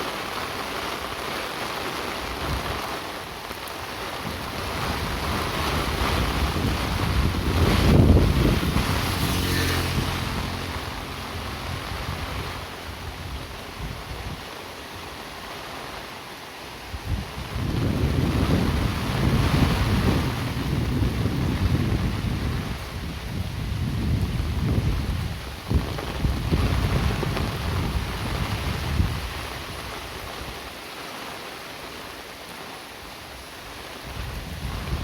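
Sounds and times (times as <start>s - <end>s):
vehicle passing on wet road: 0.0s - 32.4s
rain hiss on wet road: 0.0s - 35.0s.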